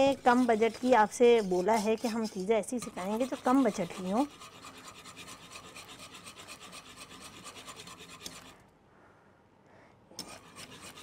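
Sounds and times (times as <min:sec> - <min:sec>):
wire whisk scraping a pot: 0:00.0 - 0:08.6, 0:10.2 - 0:11.0.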